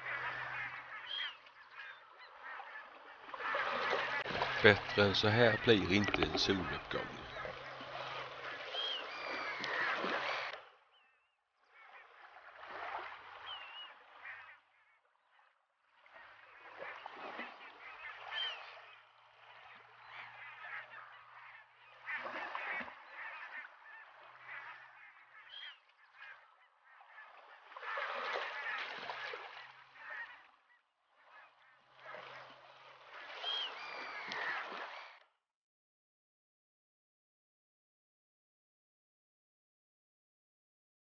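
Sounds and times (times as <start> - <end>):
flock of geese calling: 0.0 - 12.3, 12.9 - 15.0, 16.1 - 32.5, 33.1 - 35.2.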